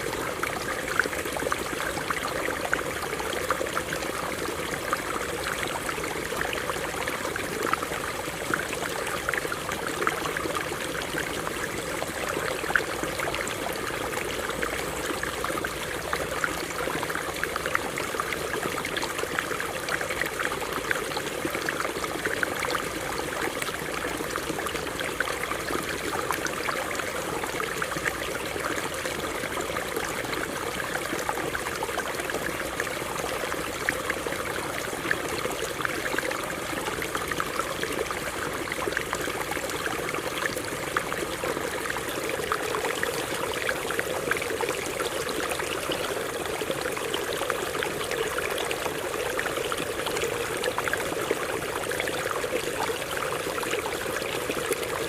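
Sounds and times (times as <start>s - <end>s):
stream water running over rocks: 0.0s - 55.0s.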